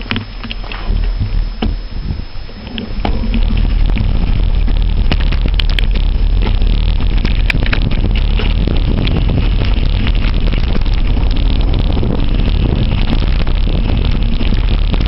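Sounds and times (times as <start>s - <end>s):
low rumble: 0.0s - 15.0s
wind buffeting microphone: 0.0s - 15.0s
bike rattling and knocking: 2.7s - 15.0s.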